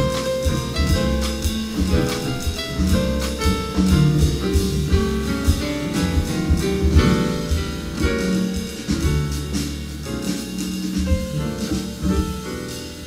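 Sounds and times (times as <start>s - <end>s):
drum kit with ride cymbal: 0.0s - 13.0s
plucked double bass: 0.0s - 13.0s.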